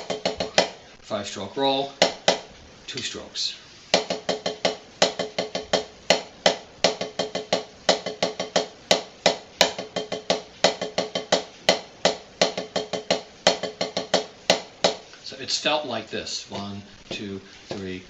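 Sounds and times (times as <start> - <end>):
snare drum rolls and strokes: 0.0 - 18.0.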